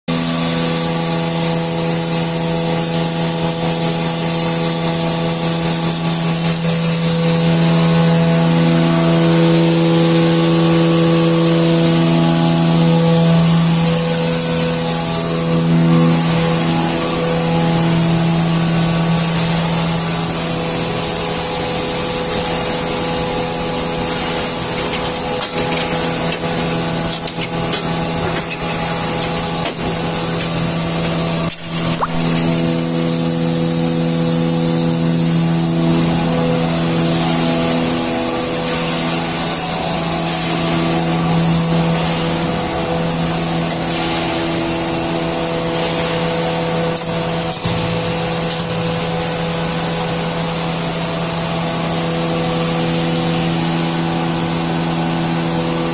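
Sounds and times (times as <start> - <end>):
machinery humming: 0.1 - 55.9.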